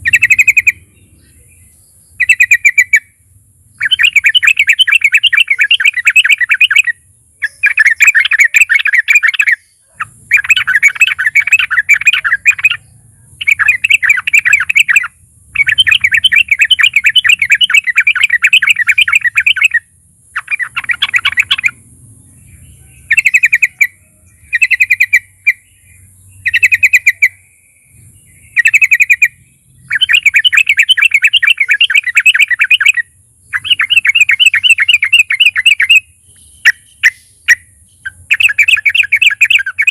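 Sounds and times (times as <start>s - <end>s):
bird singing chattering warbles: 0.0s - 39.9s.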